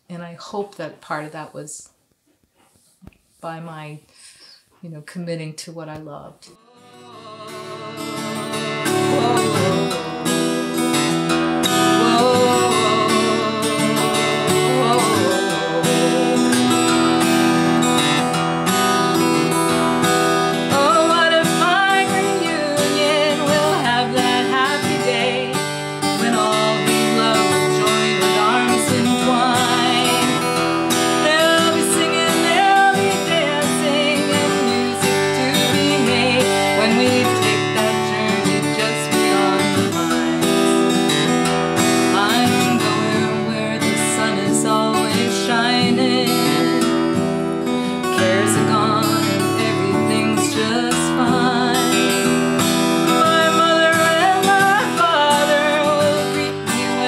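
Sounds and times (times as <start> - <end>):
woman singing folk song: 3.4 - 57.0
acoustic guitar strumming: 6.6 - 57.0.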